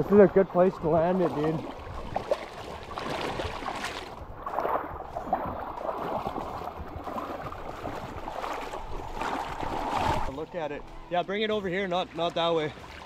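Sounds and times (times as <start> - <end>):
river water rushing and splashing: 0.0 - 11.2, 11.8 - 13.0.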